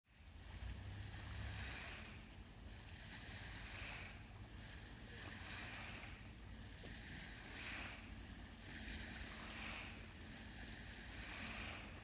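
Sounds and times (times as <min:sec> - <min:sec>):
small waves lapping on rocks: 0:00.1 - 0:12.0.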